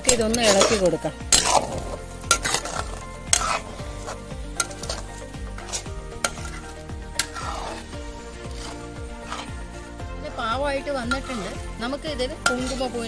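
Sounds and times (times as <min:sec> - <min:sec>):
spoon scraping and knocking in pan: 0:00.0 - 0:10.0, 0:11.0 - 0:13.0.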